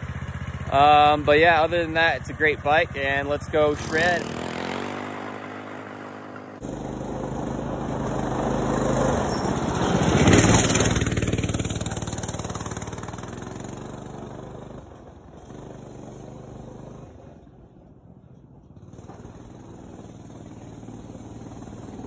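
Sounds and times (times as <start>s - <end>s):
mini bike engine running: 0.0s - 17.5s, 18.7s - 22.0s.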